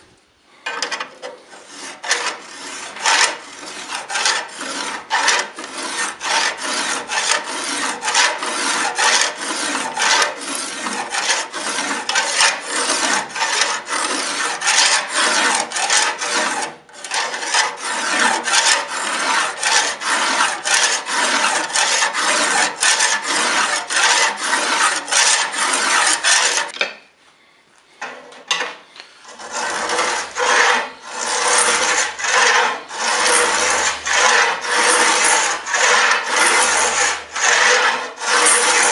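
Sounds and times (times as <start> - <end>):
steel scraper on sword blade: 1.6 - 26.7, 29.4 - 38.9.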